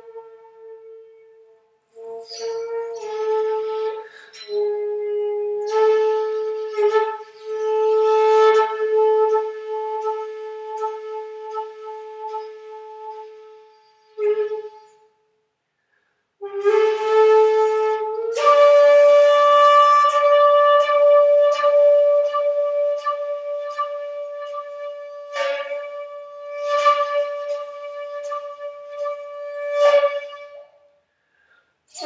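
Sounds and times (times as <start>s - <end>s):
bamboo flute playing: 0.0s - 15.3s, 16.4s - 31.0s.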